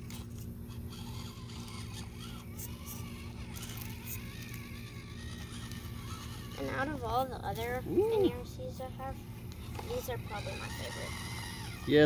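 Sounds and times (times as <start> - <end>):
small electric motors whining: 0.0 - 12.0.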